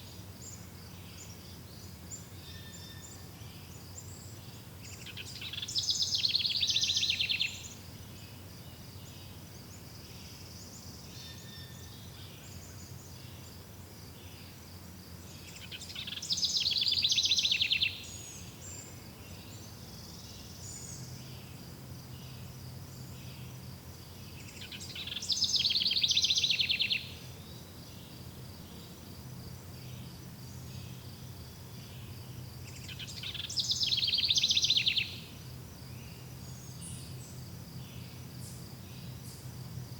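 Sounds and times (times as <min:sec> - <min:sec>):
songbird singing trilled song: 0:00.0 - 0:14.6, 0:15.3 - 0:39.9
crickets chirring: 0:00.0 - 0:39.9.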